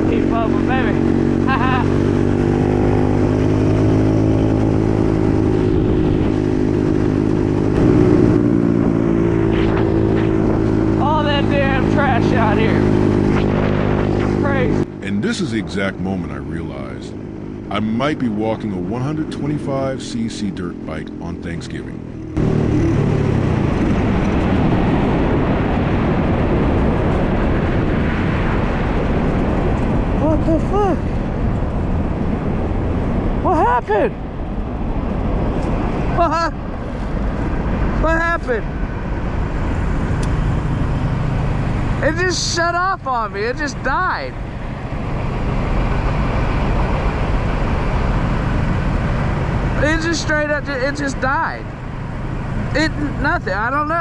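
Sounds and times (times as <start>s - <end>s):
dirt bike engine running: 0.0s - 33.8s, 34.4s - 54.0s
wind noise: 0.0s - 54.0s.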